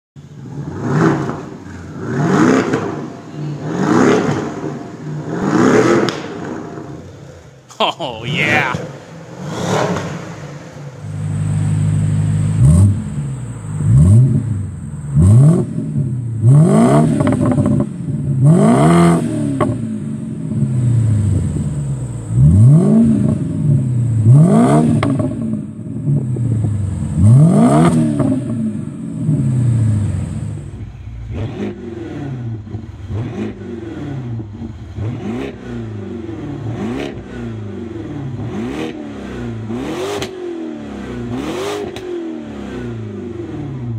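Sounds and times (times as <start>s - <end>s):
car engine revving: 0.3s - 7.4s, 8.7s - 43.9s.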